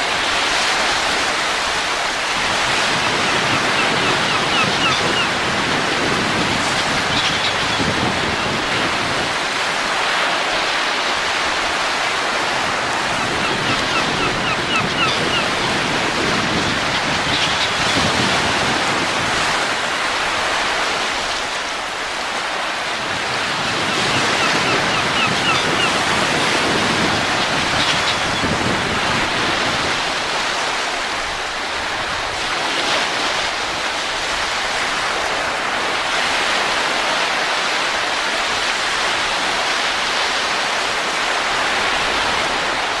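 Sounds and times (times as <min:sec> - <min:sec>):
steady wind: 0:00.0 - 0:43.0.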